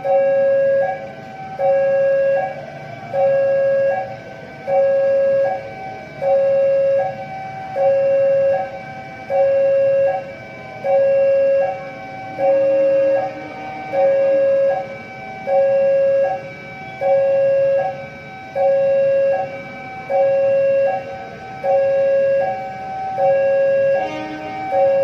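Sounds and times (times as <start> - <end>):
level crossing two-tone alarm: 0.0 - 25.0.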